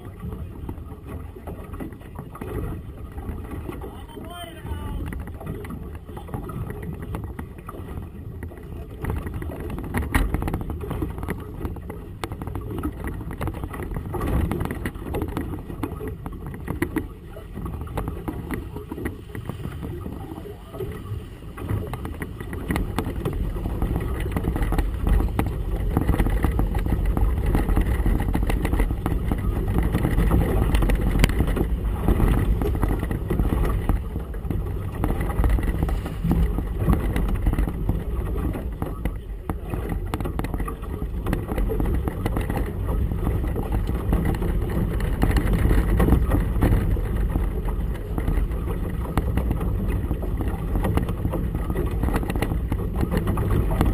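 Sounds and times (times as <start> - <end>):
choppy water against hull: 0.0 - 53.9
knocks and splashes: 0.0 - 53.9
wind: 0.0 - 53.9.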